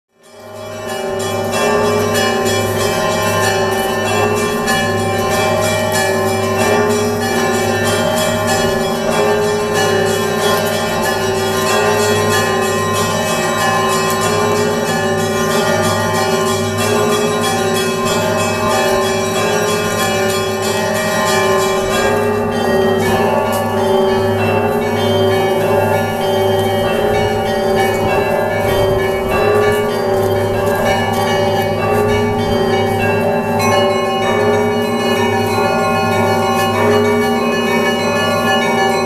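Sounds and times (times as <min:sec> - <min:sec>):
small church bells ringing: 0:00.1 - 0:39.0
deep bell strokes: 0:00.3 - 0:39.0.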